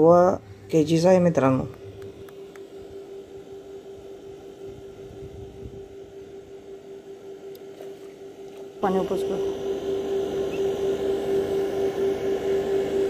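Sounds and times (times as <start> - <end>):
distant motor humming: 0.0 - 13.0.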